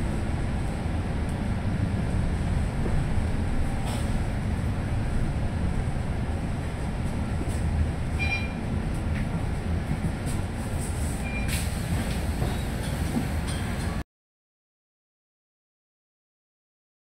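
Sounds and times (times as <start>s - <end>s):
moving bus rumble: 0.0s - 14.0s.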